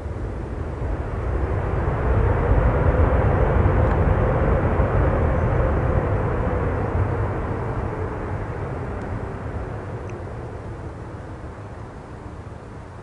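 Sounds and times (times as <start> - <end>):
jet airliner flying past: 0.0 - 13.0.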